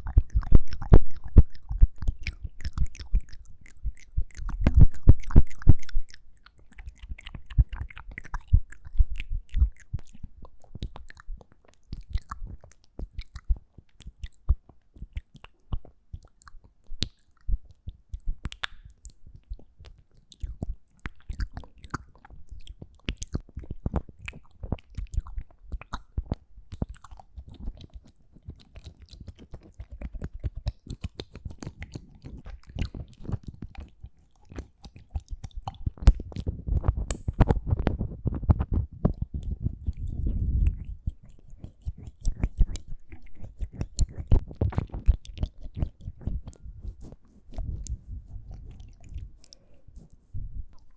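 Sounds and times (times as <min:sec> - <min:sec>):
wet mouth clicks and smacks: 0:00.0 - 0:50.9.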